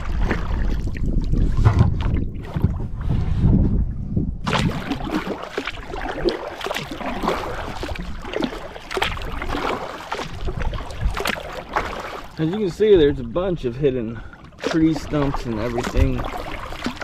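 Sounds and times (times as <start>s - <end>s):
water splashing against kayak hull: 0.0s - 3.5s, 4.4s - 17.0s
wind rumbling on microphone: 0.0s - 17.0s.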